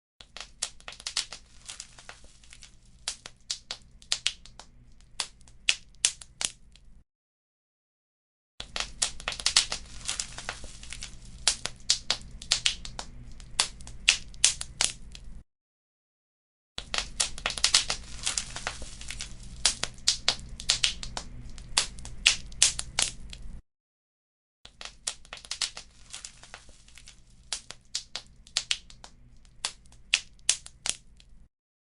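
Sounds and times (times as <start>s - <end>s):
fireplace fire crackling and popping: 0.2s - 7.0s, 8.6s - 15.4s, 16.8s - 23.6s, 24.7s - 31.5s.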